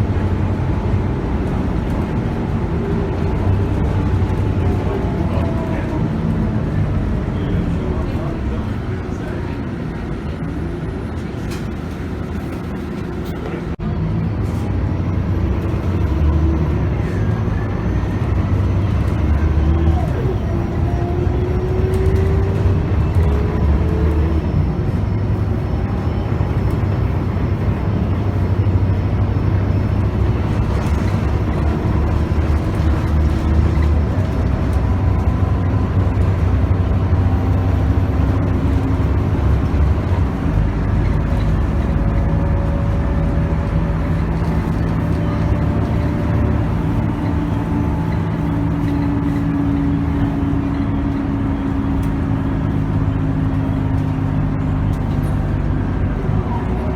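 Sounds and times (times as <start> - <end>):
bus engine accelerating: 0.0 - 56.9.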